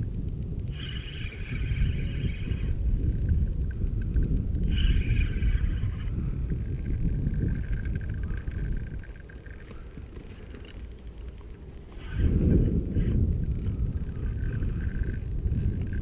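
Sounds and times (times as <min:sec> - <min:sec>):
faint high whirring: 0:00.0 - 0:16.0
wind buffeting microphone: 0:00.0 - 0:16.0.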